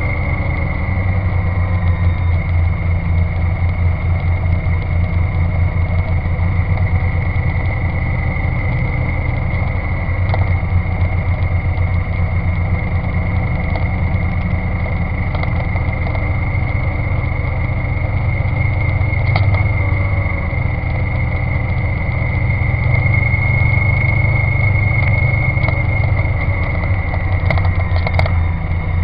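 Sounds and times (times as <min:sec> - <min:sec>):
engine idling: 0:00.0 - 0:29.0
faint engine ticks: 0:00.0 - 0:29.0
high-pitched whine: 0:00.0 - 0:29.0.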